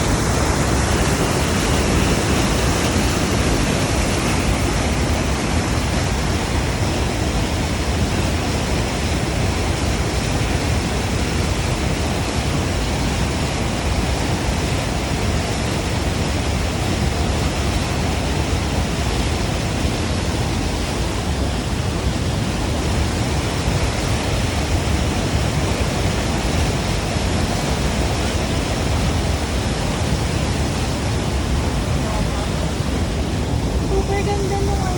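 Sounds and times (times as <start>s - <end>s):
stream of running water: 0.0s - 34.9s.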